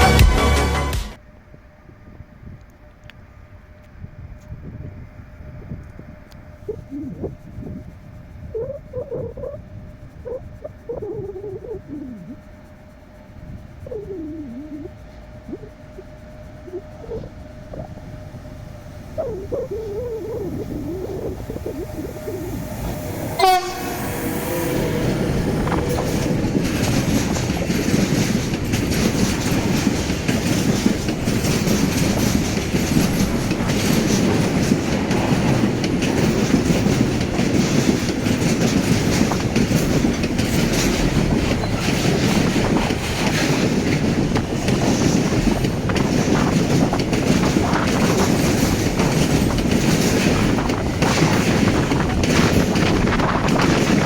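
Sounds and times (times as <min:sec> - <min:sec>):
freight train rumble and clatter: 0:00.0 - 0:54.0.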